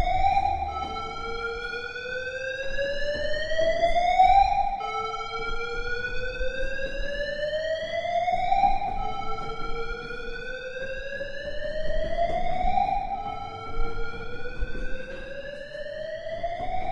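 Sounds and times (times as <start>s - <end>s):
wailing warning siren: 0.0s - 16.9s.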